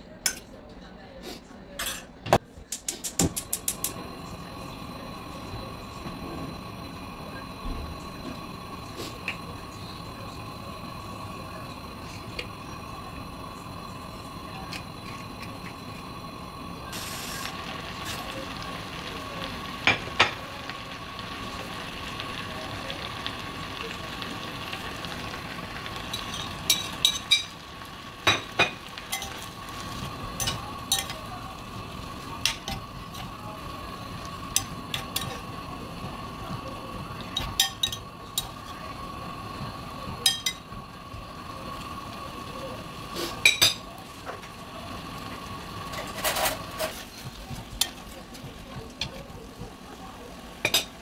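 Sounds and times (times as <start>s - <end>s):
food sizzling in saucepan: 3.1s - 51.0s.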